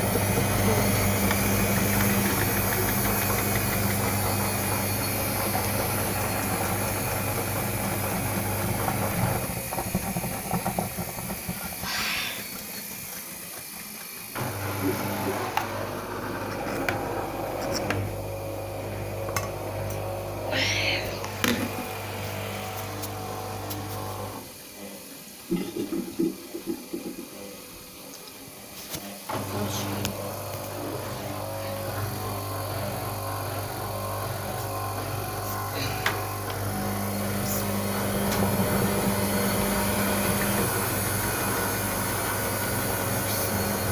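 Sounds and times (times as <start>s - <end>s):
washing machine humming: 0.0s - 43.9s.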